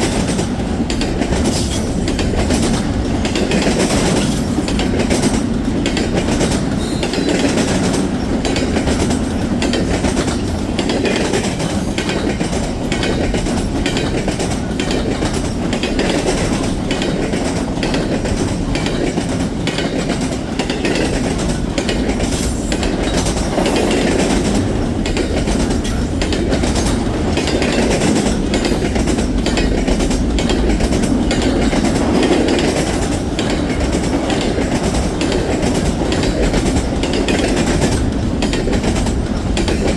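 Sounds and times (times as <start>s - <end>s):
freight train rumbling: 0.0s - 39.9s
wheels clicking over rail joints: 0.0s - 39.9s.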